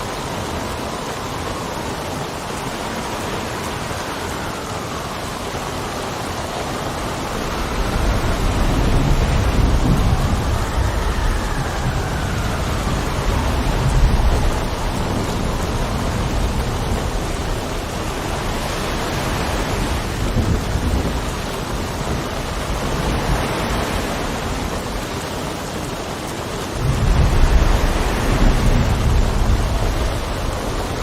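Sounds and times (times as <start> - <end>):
rain: 0.0 - 31.0
wind: 0.0 - 31.0.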